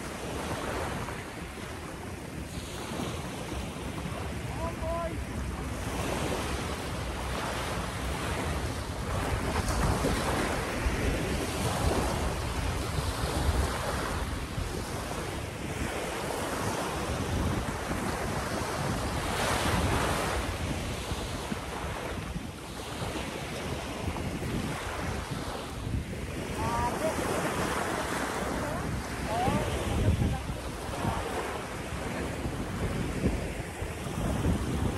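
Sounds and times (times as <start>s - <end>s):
small waves breaking on sand: 0.0s - 34.9s
wind buffeting microphone: 0.0s - 34.9s.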